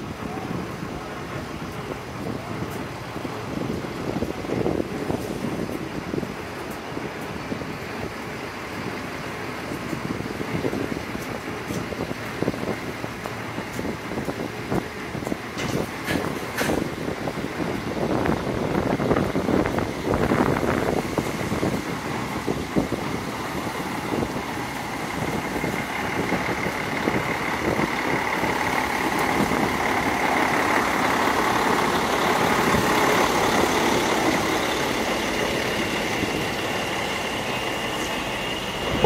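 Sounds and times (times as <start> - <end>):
heavy vehicle engine running: 0.0 - 39.0
street traffic: 0.0 - 39.0.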